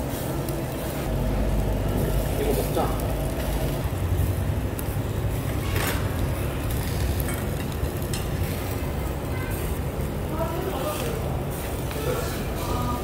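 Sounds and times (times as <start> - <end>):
restaurant background rumble: 0.0 - 13.0.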